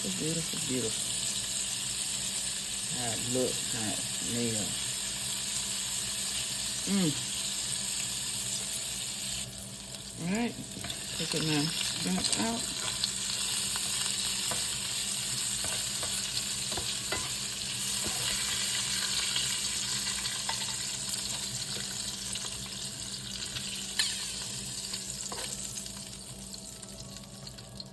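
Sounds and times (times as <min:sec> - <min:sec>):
shrimp sizzling in a frying pan: 0:00.0 - 0:27.9.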